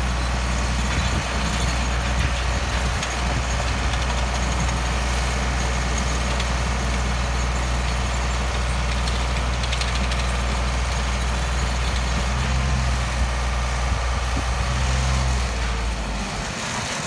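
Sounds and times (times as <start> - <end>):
diesel machinery droning: 0.0 - 17.0.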